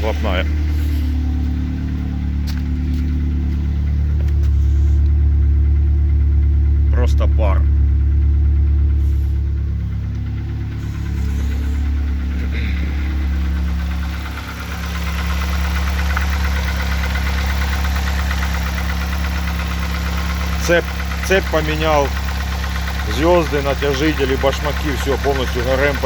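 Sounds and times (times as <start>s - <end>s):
car engine idling: 0.0s - 26.0s
fast light engine ticking: 0.0s - 26.0s.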